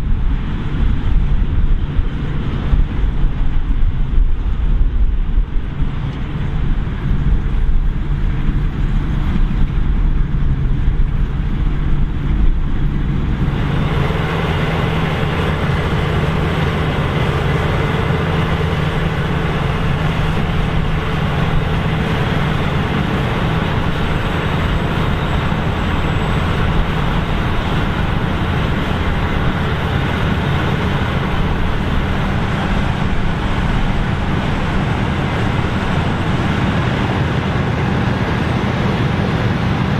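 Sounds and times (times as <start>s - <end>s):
combine harvester engine hum: 0.0s - 39.9s
hissy mechanical noise: 0.0s - 39.9s.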